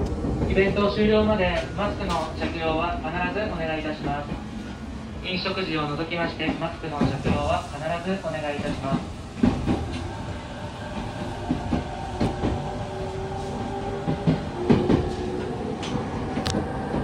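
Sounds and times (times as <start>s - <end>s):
train wheel rumble: 0.0s - 17.0s.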